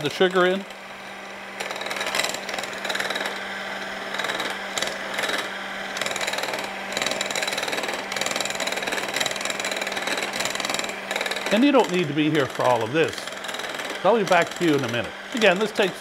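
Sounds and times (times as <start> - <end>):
electric hand mixer whirring: 0.0 - 16.0.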